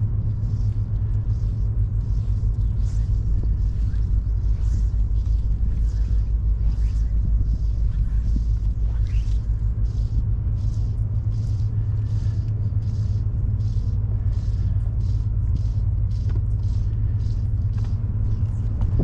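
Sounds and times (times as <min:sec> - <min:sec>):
boat engine rumble: 0:00.0 - 0:19.0.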